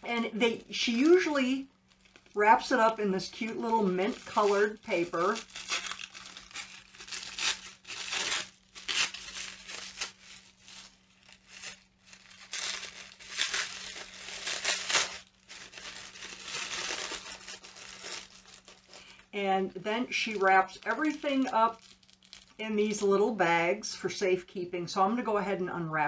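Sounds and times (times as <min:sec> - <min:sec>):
wrapping paper crinkling: 0:00.4 - 0:19.3, 0:20.0 - 0:23.1.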